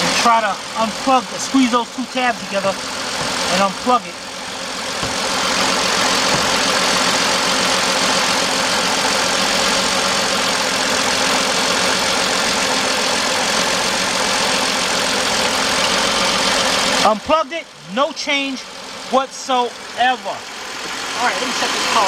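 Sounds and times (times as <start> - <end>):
car engine idling with misfire: 0.0 - 22.0.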